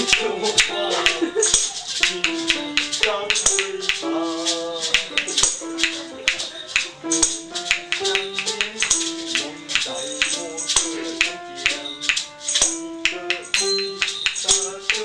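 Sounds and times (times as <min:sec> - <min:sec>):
maracas shaking: 0:00.0 - 0:15.0
melody of held notes: 0:00.0 - 0:15.0
tambourine rhythm: 0:00.0 - 0:15.0.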